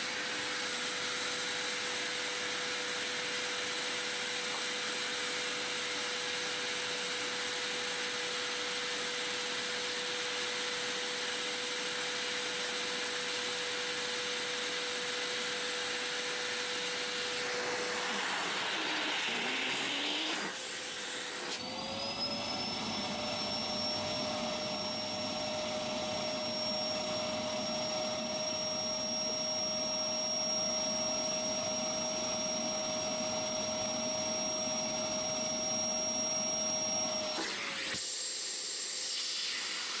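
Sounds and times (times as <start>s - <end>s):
vacuum cleaner whine: 0.0s - 40.0s.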